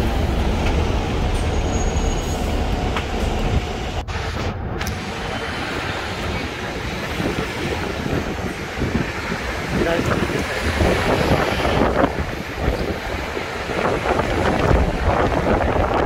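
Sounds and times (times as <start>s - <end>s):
bus rumbling: 0.0s - 16.0s
city street traffic: 0.0s - 16.0s.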